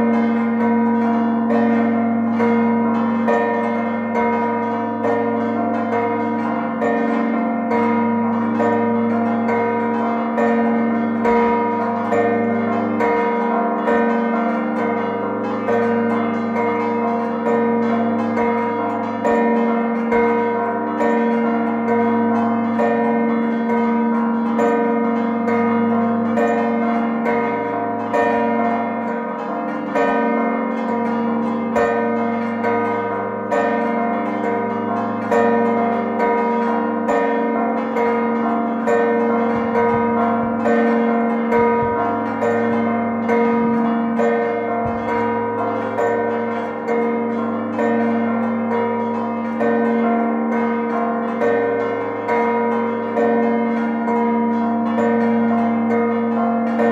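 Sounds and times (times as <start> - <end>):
church bells pealing: 0.0 - 56.9.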